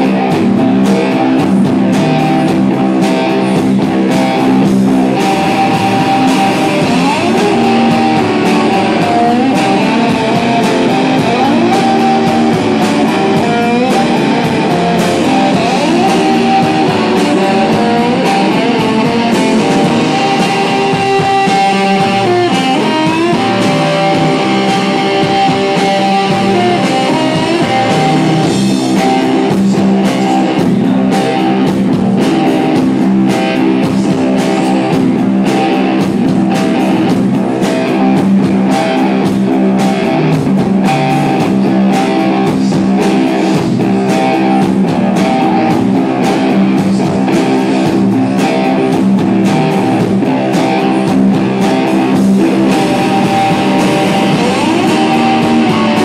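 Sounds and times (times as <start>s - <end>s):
steady drum beat: 0.0s - 56.0s
strummed guitars: 0.0s - 56.0s.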